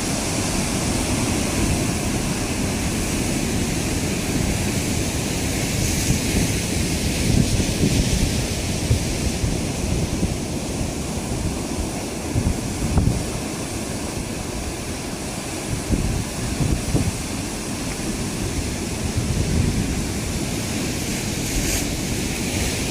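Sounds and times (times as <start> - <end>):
surf washing against breakwater: 0.0 - 22.9
wind buffeting microphone: 0.0 - 22.9.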